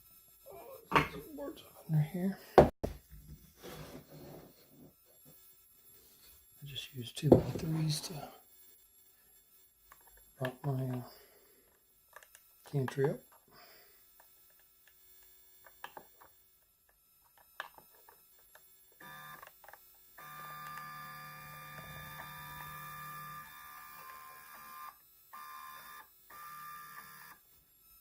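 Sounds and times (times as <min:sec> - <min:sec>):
small electric motor whining: 0:03.4 - 0:28.0.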